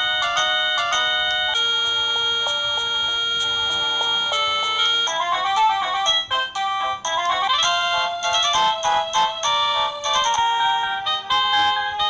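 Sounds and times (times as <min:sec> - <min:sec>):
doorbell electronic chime melody: 0:00.0 - 0:12.0.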